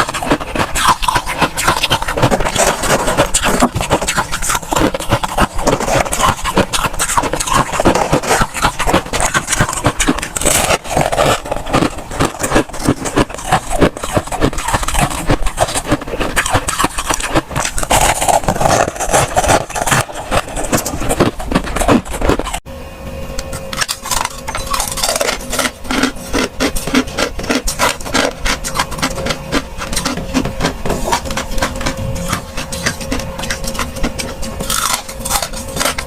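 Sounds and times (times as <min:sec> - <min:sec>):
freezer frost crunching: 0:00.0 - 0:22.6, 0:23.4 - 0:36.0.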